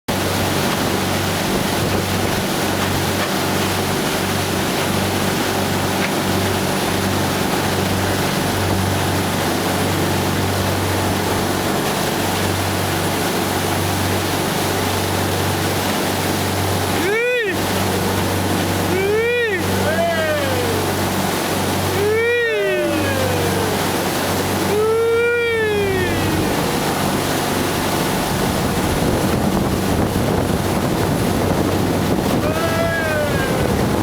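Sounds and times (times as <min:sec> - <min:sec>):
motorboat engine droning: 0:00.1 - 0:34.0
rushing water: 0:00.1 - 0:34.0
wind: 0:00.1 - 0:34.0.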